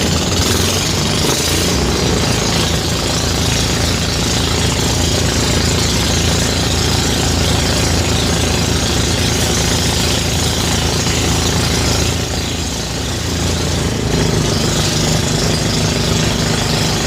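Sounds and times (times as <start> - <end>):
threshing machine engine drone: 0.0 - 17.0.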